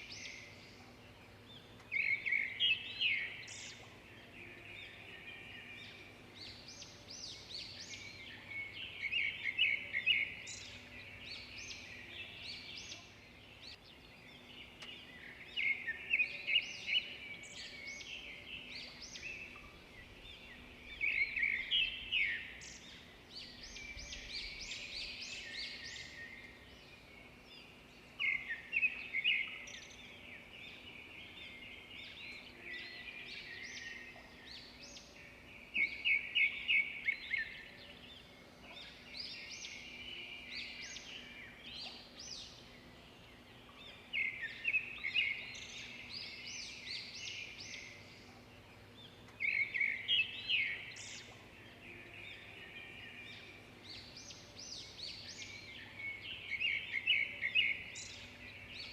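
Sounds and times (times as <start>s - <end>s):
songbirds singing and chirping: 0.0s - 58.9s.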